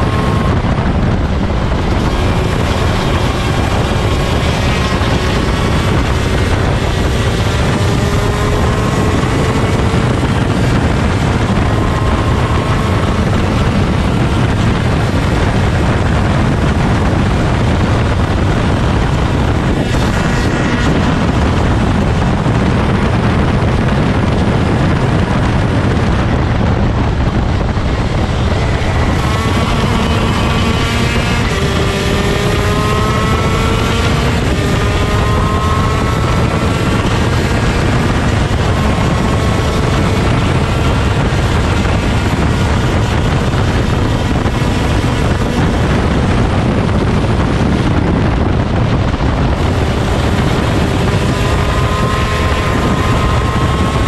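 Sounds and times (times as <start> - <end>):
kart engine accelerating: 0.0 - 54.0
wind buffeting microphone: 0.0 - 54.0.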